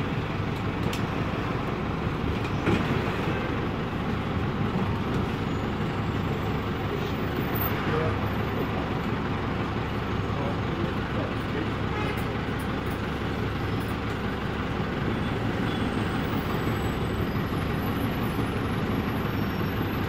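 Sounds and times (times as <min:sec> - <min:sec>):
diesel engine running: 0:00.0 - 0:20.0
road noise: 0:00.0 - 0:20.0.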